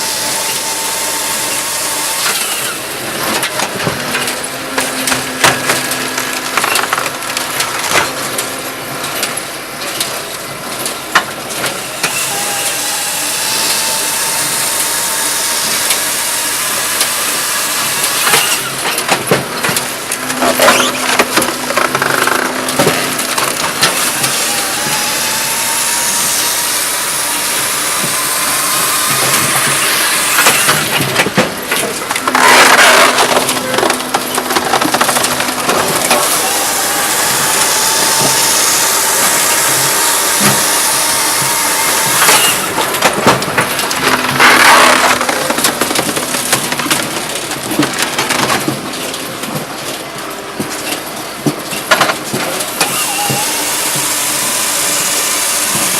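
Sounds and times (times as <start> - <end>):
firewood processor running: 0.0 - 55.9.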